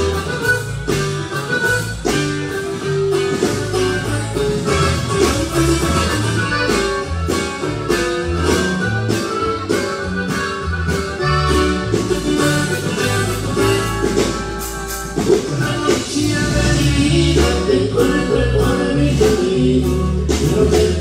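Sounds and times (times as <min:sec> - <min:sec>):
accordion melody: 0:00.0 - 0:21.0
bass line: 0:00.0 - 0:21.0
guitar: 0:00.0 - 0:21.0.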